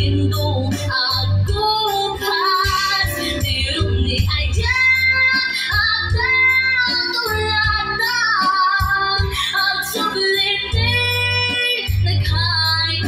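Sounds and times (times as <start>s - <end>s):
song with high singing voice: 0.0s - 13.0s.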